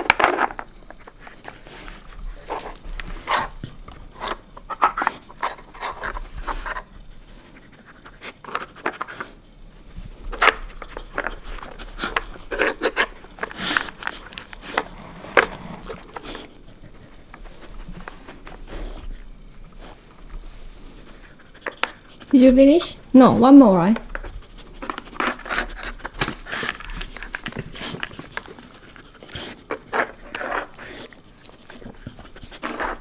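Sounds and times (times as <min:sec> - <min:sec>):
dog panting: 0:01.0 - 0:22.8, 0:24.1 - 0:33.0.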